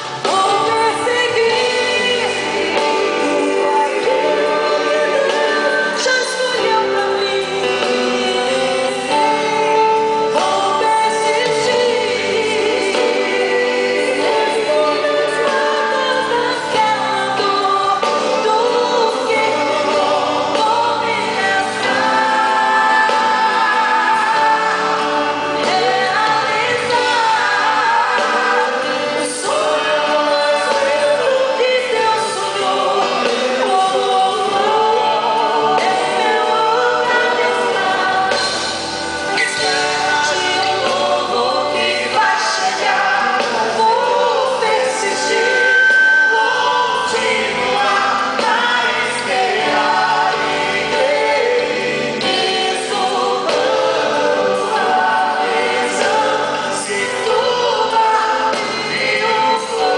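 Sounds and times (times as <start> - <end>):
band with drums guitars violin: 0.0 - 59.9
man and woman singing duet: 0.0 - 59.9.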